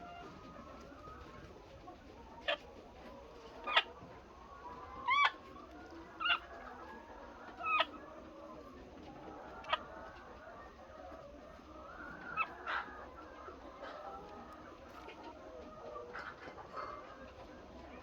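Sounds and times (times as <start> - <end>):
flock of hens chattering: 0.0 - 18.0.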